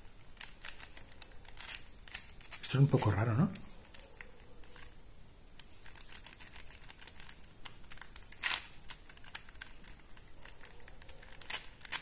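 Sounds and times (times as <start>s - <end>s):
plastic puzzle layers clicking: 0.3s - 4.9s, 5.6s - 12.0s.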